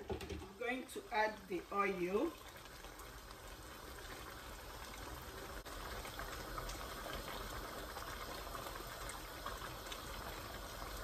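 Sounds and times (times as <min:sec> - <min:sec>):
stew simmering bubbling: 0:00.0 - 0:11.0.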